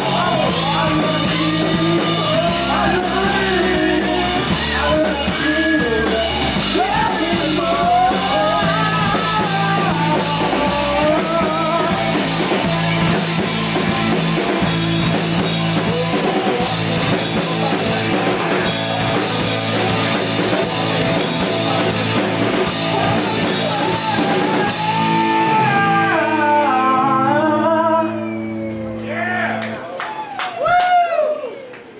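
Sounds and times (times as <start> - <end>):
lead singer singing: 0.0 - 29.0
rock band playing live: 0.0 - 29.9.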